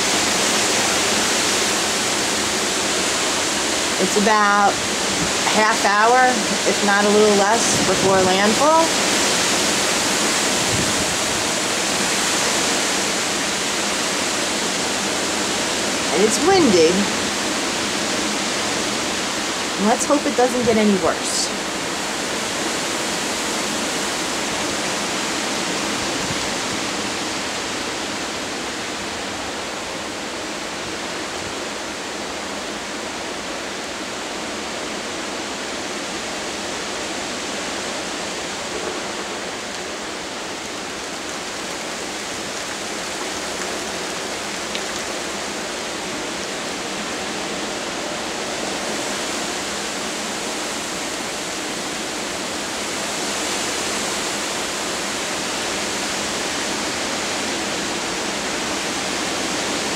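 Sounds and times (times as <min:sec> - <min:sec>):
strong wind through treetops: 0:00.0 - 0:59.9.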